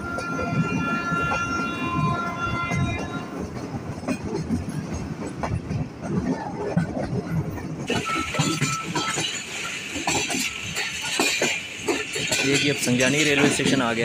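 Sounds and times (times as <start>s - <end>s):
train rumble: 0.0s - 14.0s
wheels clattering on rails: 0.0s - 14.0s.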